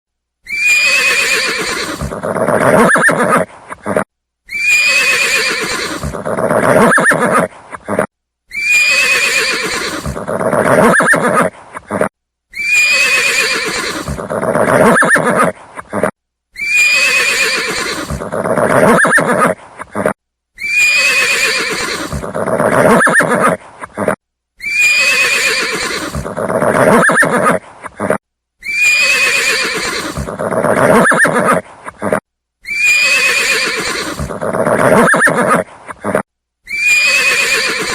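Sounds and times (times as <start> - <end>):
horse whinnying: 0.4 - 37.9.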